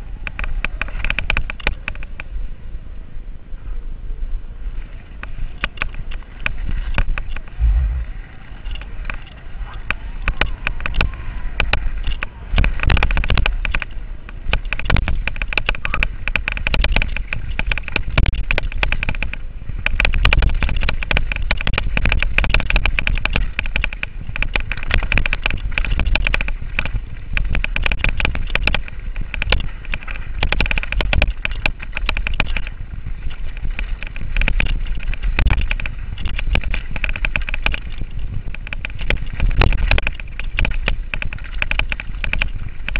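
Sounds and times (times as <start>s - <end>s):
bike rattling and knocking: 0.0s - 2.4s, 4.8s - 42.9s
tyres rumbling on dirt: 4.4s - 42.9s.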